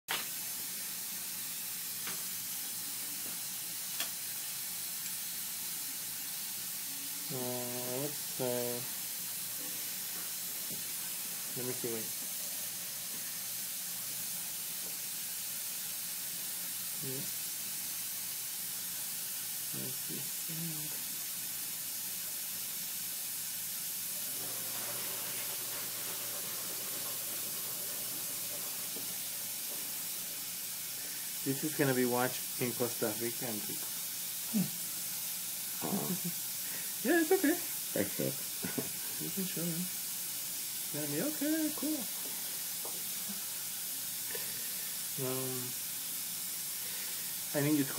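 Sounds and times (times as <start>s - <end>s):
dental suction hissing: 0.4s - 47.9s.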